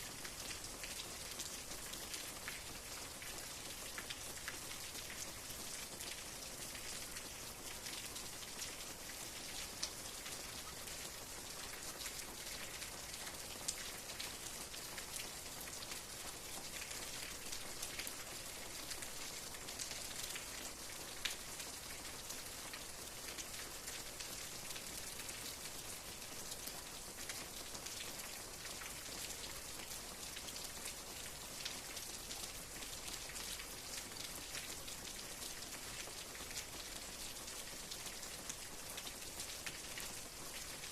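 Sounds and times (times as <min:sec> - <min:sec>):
raindrops ticking on a surface: 0:00.0 - 0:40.9
steady rain hiss: 0:00.0 - 0:40.9.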